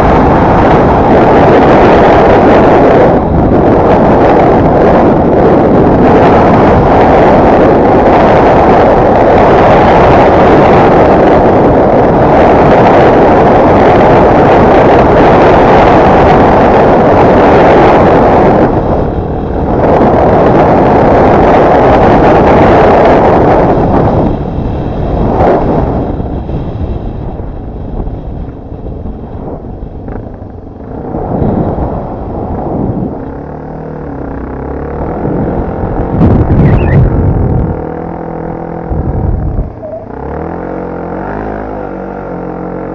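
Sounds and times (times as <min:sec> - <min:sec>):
motorcycle engine: 0:00.0 - 0:42.9
wind buffeting microphone: 0:00.0 - 0:42.9.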